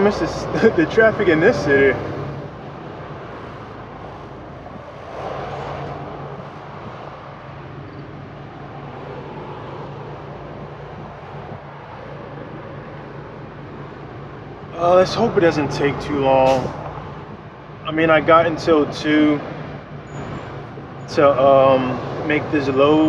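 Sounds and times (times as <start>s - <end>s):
road noise: 0.0s - 23.0s
truck engine drone: 0.0s - 23.0s.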